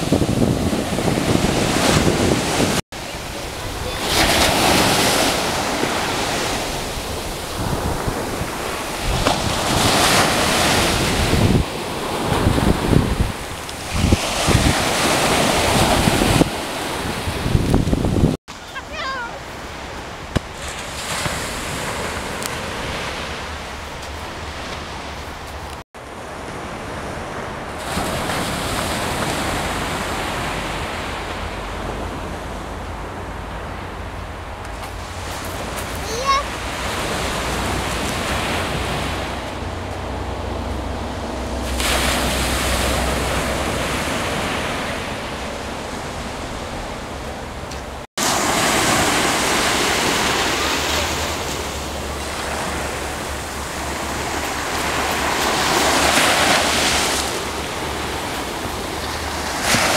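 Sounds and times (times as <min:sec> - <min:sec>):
waves breaking on a beach: 0:00.0 - 0:59.9
wind buffeting microphone: 0:00.0 - 0:59.9.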